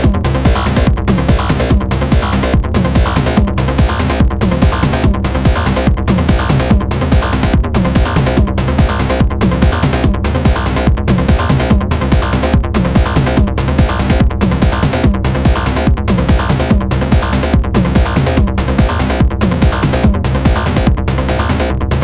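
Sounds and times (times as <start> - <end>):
low synth bass line: 0.0 - 22.0
repeating drum machine pattern: 0.0 - 22.0.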